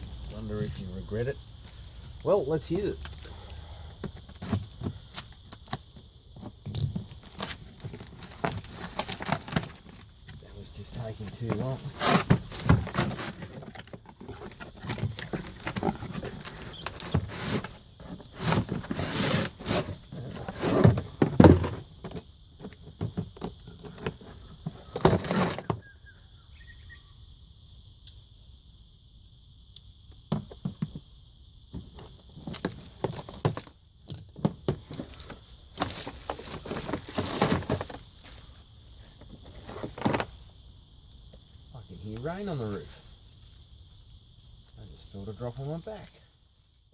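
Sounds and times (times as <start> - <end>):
high insect chirring: 0.0 - 46.9.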